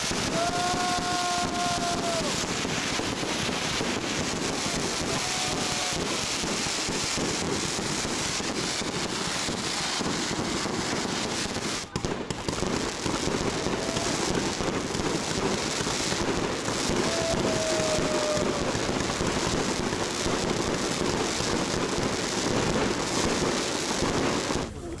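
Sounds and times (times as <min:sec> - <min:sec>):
falling firework whistle: 0:00.0 - 0:24.7
fireworks crackling: 0:00.0 - 0:25.0.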